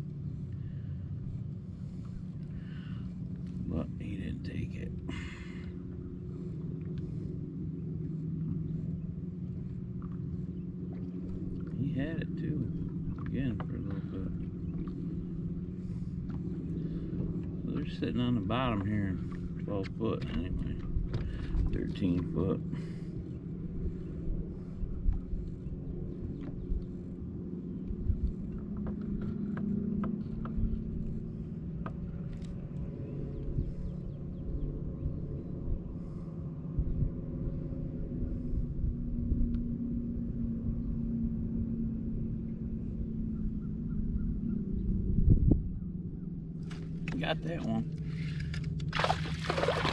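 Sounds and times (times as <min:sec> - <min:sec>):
electric boat motor humming: 0:00.0 - 0:49.9.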